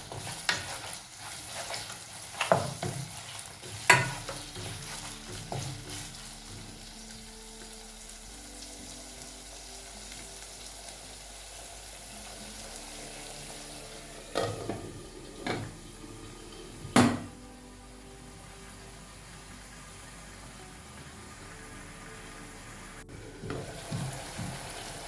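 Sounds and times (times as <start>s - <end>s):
meat sizzling in hot oil: 0.0s - 17.0s, 18.9s - 25.0s.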